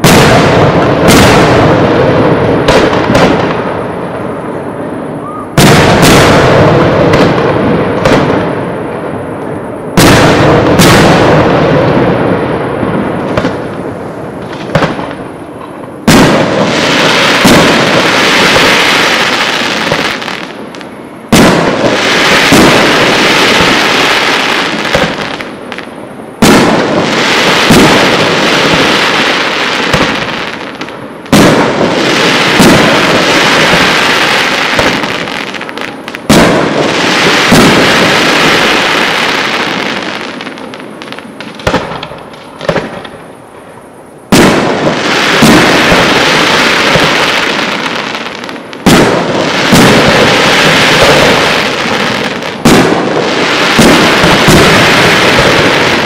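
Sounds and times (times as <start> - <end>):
firework crackle: 0.0 - 56.0.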